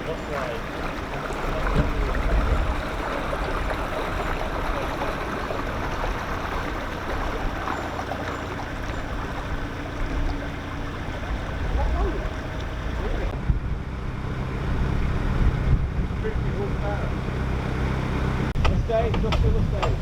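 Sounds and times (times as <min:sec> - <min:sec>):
water rushing and gurgling: 0:00.0 - 0:20.0.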